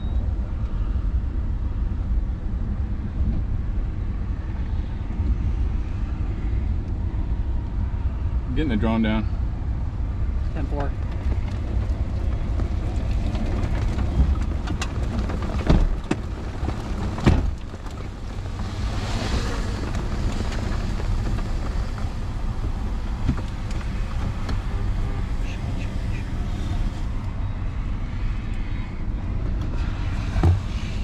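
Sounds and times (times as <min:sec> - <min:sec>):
wind rumble on microphone: 0:00.0 - 0:31.0.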